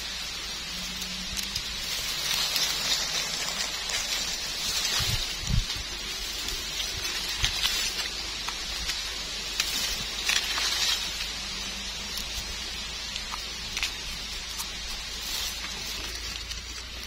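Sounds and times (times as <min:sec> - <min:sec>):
dry leaves crackling and rustling: 0:00.0 - 0:17.0.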